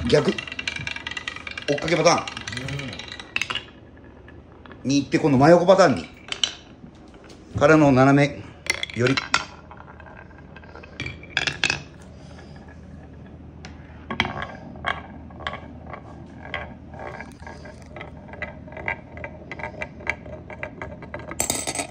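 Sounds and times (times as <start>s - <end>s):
marbles clicking on wooden track: 0.0s - 21.9s.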